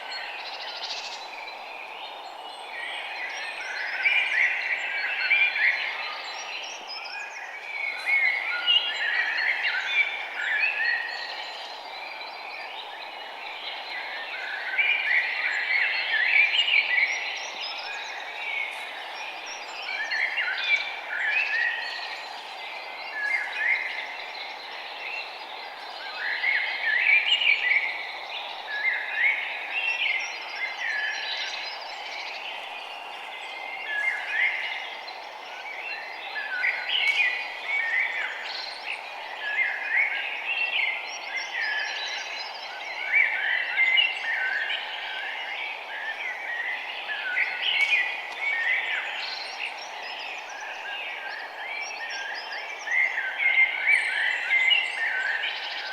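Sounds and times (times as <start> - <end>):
steady background hiss: 0.0 - 55.9
birds chirping: 5.8 - 55.9.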